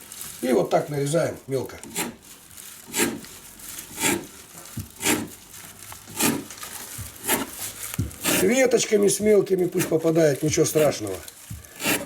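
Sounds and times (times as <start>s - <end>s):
pine branches crunching cuts: 0.0s - 12.0s.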